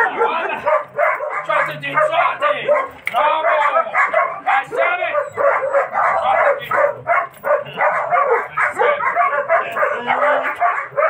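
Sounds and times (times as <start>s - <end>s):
dog barking fast: 0.0s - 11.0s.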